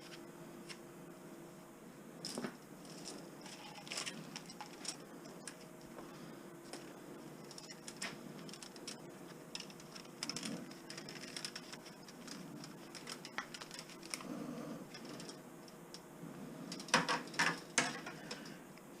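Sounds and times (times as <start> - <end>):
faint steady hum: 0.0 - 19.0
wire rustling: 2.2 - 18.6.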